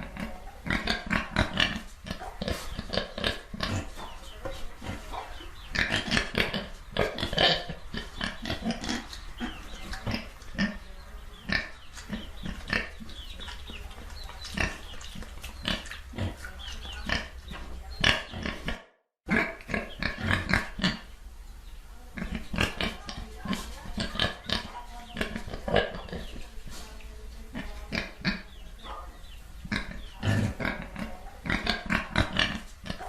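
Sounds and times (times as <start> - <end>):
pig grunting and oinking: 0.0 - 4.2, 4.8 - 21.1, 22.1 - 26.4, 27.6 - 28.6, 29.6 - 33.0.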